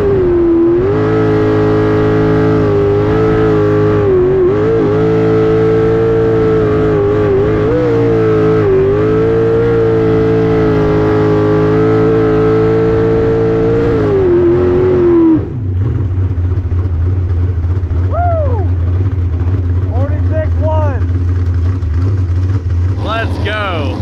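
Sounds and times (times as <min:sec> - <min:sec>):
boat engine at high revs: 0:00.0 - 0:24.0.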